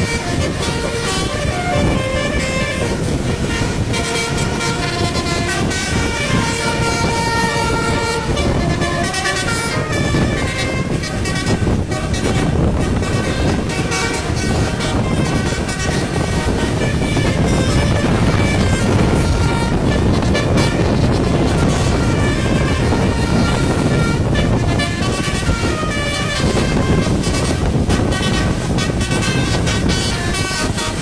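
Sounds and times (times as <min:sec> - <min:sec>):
musical air horn melody: 0:00.0 - 0:31.0.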